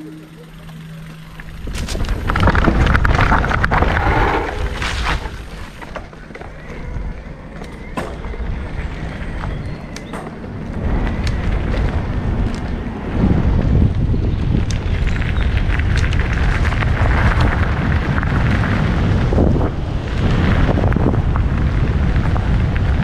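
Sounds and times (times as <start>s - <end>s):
bike clicks and rattles: 0.0s - 23.0s
tyres rumbling over dirt: 0.0s - 23.0s
wind on microphone: 1.4s - 23.0s.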